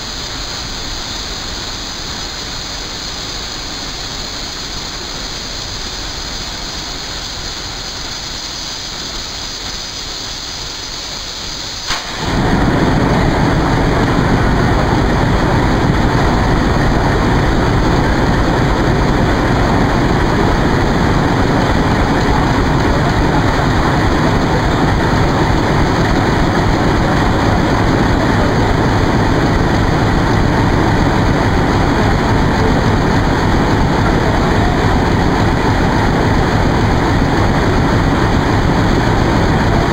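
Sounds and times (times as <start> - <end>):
diesel locomotive engine running: 0.0 - 39.9.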